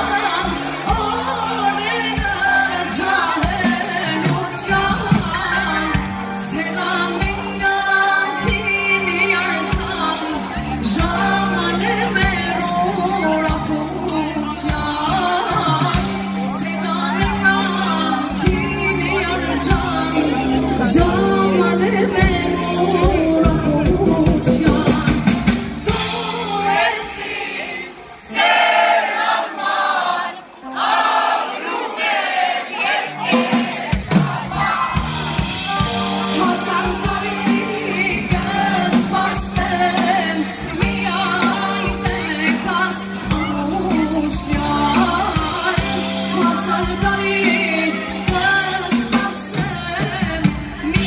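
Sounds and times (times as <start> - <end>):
electric bass: 0.0 - 26.7, 34.6 - 51.0
drum kit: 0.0 - 27.4, 32.8 - 51.0
woman singing into a microphone: 0.0 - 28.0, 33.1 - 51.0.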